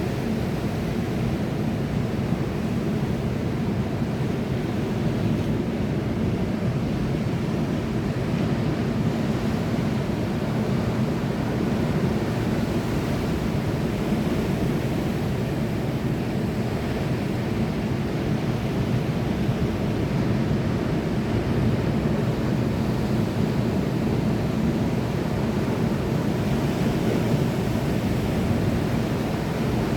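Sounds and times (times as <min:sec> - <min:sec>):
sea surf rushing: 0:00.0 - 0:29.9.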